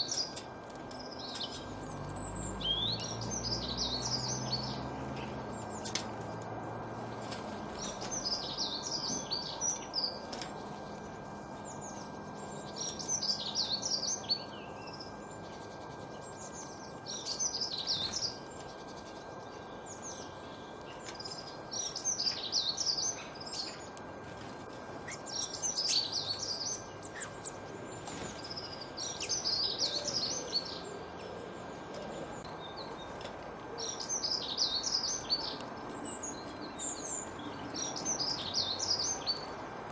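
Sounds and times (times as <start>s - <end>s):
songbird chirping: 0.0s - 6.8s, 7.4s - 39.7s.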